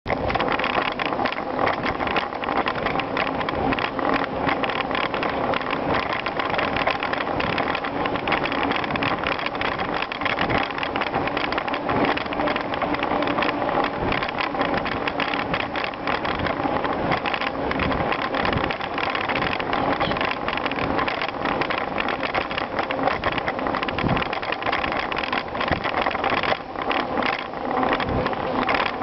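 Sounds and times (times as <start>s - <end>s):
bike rattling: 0.1s - 29.0s.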